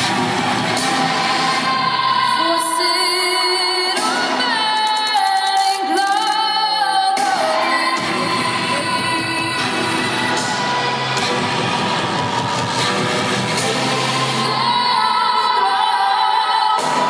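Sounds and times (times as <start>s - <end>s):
entrance music: 0.0s - 5.2s, 7.2s - 17.0s.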